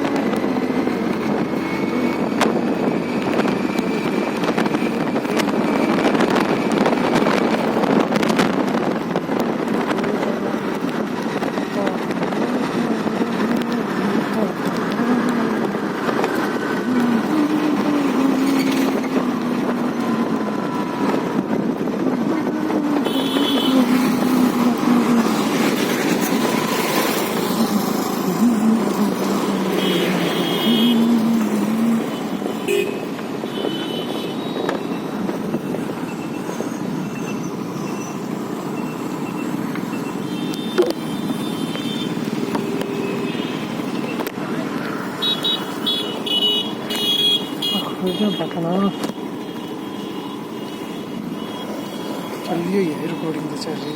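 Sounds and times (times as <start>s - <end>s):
scooter engine hum: 0.0s - 48.5s
road and wind noise: 0.0s - 53.9s.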